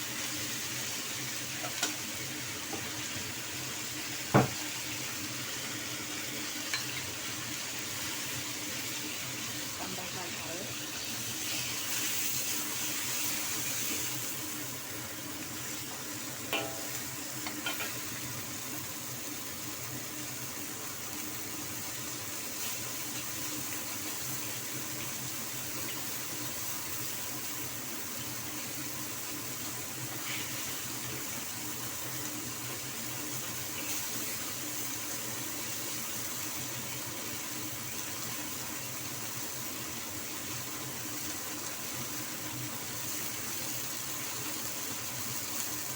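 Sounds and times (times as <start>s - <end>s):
food hissing in a pan: 0.0s - 45.9s.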